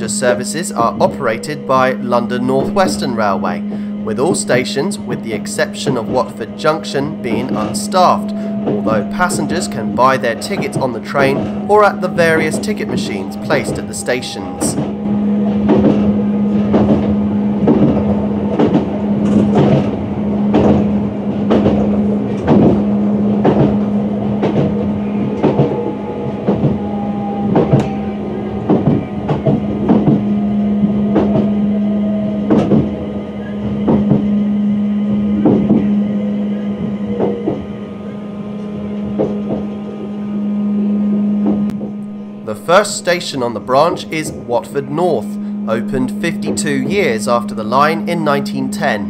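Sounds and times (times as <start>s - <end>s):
faint falling whine: 0.0s - 20.6s, 21.9s - 49.0s
train running hum: 0.0s - 49.0s.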